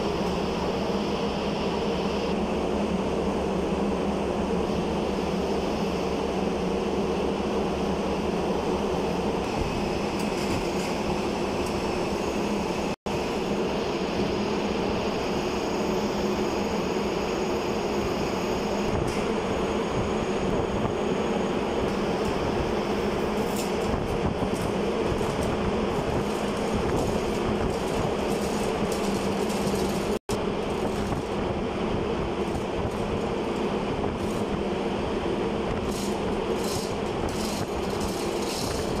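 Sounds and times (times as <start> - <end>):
engine room machinery drone: 0.0 - 39.0.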